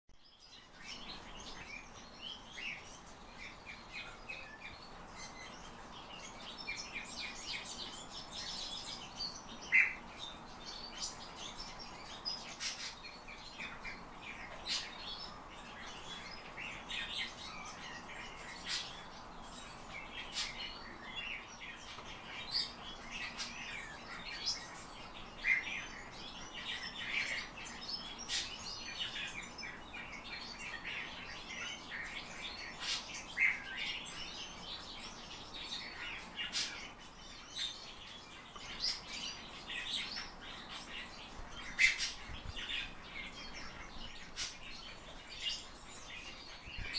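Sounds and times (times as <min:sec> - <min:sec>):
finch chirping: 0:00.2 - 0:46.9.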